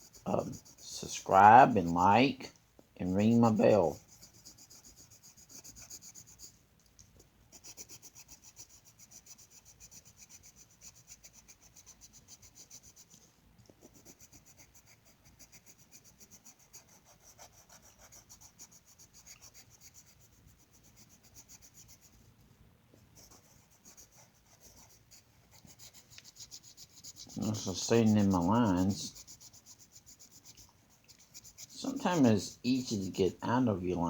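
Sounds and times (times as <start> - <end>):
pencil strokes scratching on paper: 0.0 - 6.6, 7.5 - 34.0.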